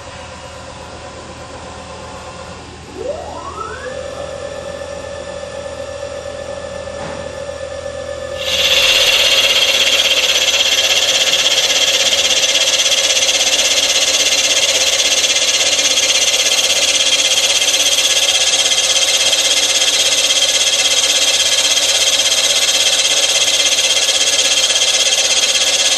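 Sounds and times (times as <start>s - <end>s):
milling machine cutting whine: 0.8s - 25.9s.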